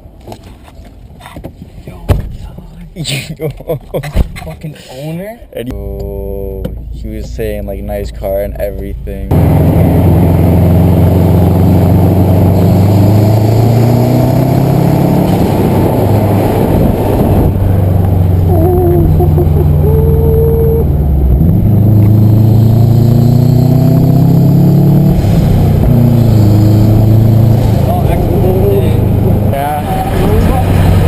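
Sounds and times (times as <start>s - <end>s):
car engine accelerating: 5.8s - 31.0s.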